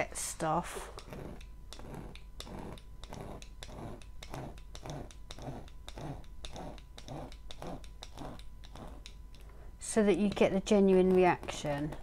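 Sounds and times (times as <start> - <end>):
hand tool scraping adhesive canvas: 0.8 - 9.2, 10.2 - 12.0.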